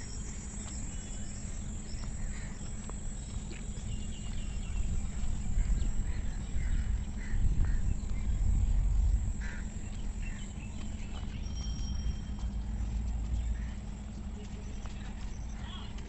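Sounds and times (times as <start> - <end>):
high insect drone: 0.0 - 16.0
steady low rumble: 0.0 - 16.0.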